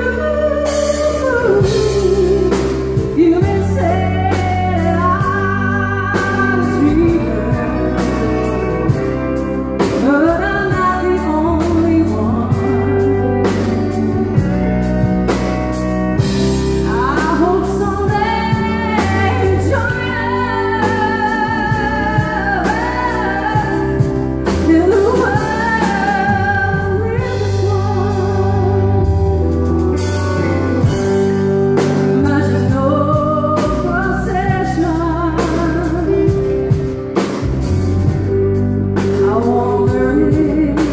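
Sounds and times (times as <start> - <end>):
woman singing into a microphone: 0.0 - 14.9, 16.2 - 29.4, 31.8 - 36.9, 38.8 - 40.9
electric keyboard: 0.0 - 40.9.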